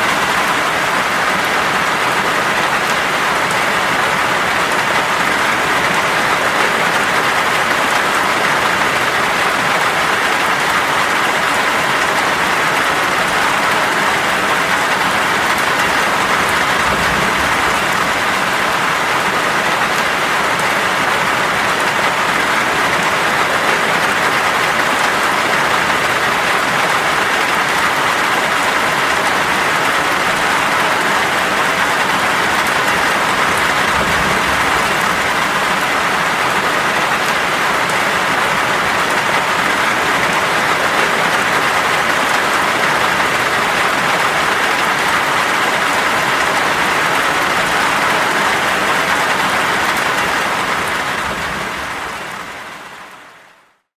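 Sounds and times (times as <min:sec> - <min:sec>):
heavy rain pouring: 0:00.0 - 0:53.8.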